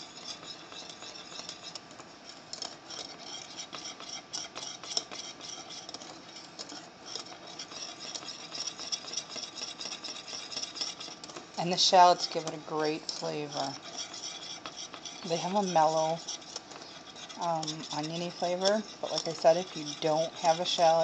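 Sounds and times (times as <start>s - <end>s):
whisk scraping metal saucepan: 0.0s - 21.0s.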